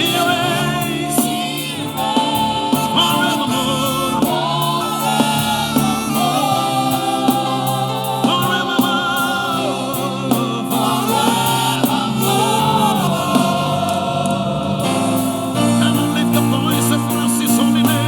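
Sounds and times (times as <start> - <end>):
band playing: 0.0 - 18.0
choir and congregation singing: 0.0 - 18.0.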